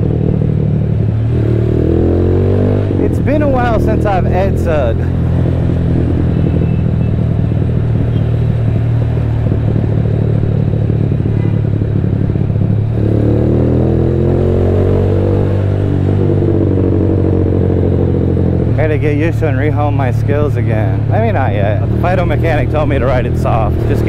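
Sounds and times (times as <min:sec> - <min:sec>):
motorcycle engine running loud: 0:00.0 - 0:24.0.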